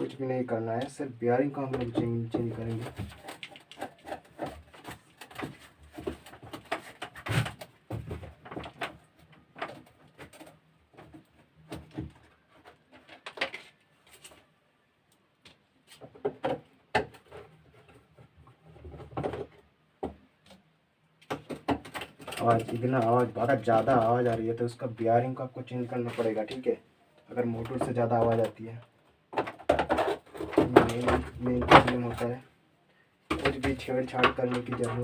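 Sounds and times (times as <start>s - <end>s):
clicks and taps handling plastic: 0.7s - 14.4s, 15.4s - 24.4s, 25.8s - 32.2s, 33.3s - 35.0s.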